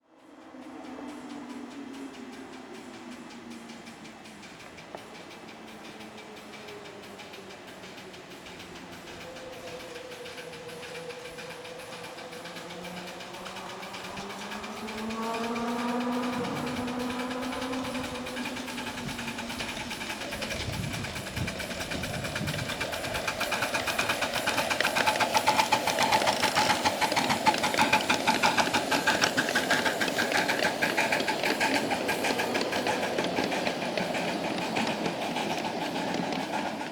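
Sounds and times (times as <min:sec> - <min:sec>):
steam locomotive exhaust chuffing: 0:00.0 - 0:36.9.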